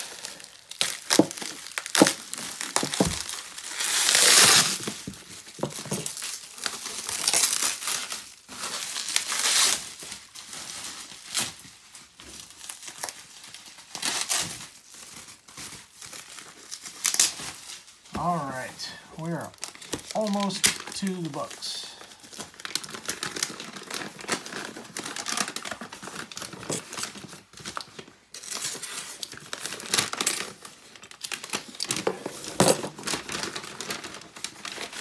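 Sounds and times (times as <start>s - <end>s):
bubble wrap rustling and crackling: 0.0s - 35.0s.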